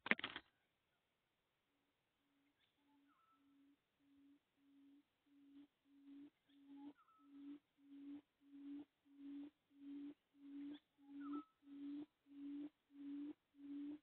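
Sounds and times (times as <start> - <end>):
bird hooting: 2.6 - 14.0.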